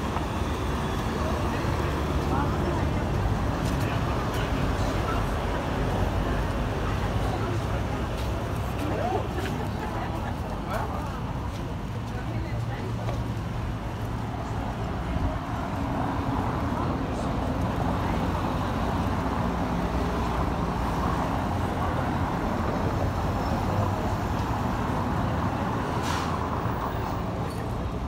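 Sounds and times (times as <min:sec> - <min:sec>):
car engines passing: 0:00.0 - 0:28.0
people's voices: 0:00.0 - 0:28.0.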